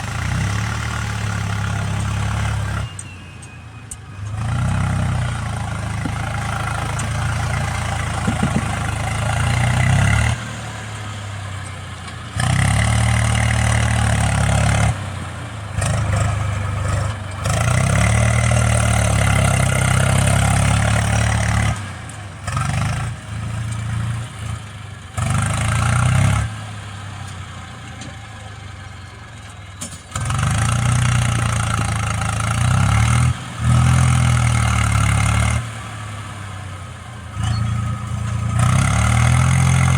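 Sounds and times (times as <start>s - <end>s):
diesel engines revving: 0.0s - 39.9s.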